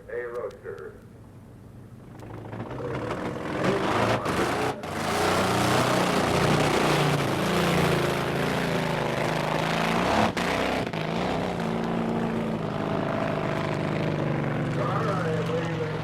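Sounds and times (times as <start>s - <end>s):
drag car engine revving: 2.0s - 16.0s.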